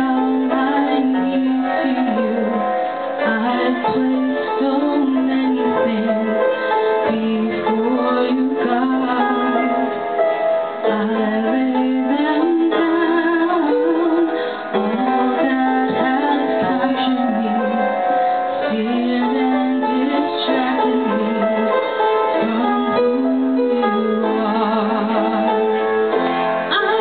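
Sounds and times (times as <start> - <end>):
piano: 0.0 - 27.0.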